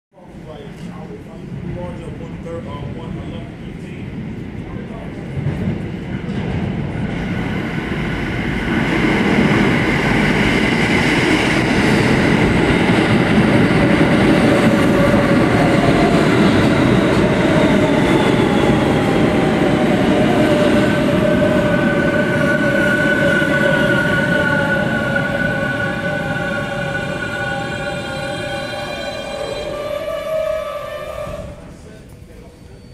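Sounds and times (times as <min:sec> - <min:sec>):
train wheels rumbling on rails: 0:00.3 - 0:32.8.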